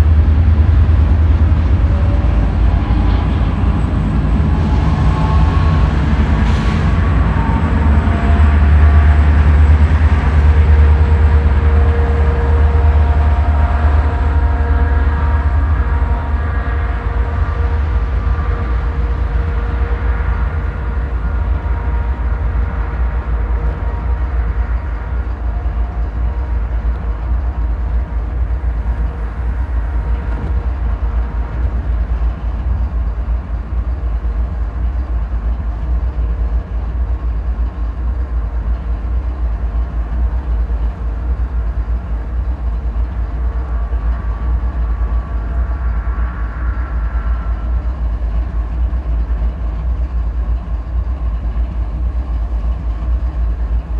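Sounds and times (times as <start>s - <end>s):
faint steady tones: 0.0s - 53.9s
train rumbling: 0.0s - 53.9s.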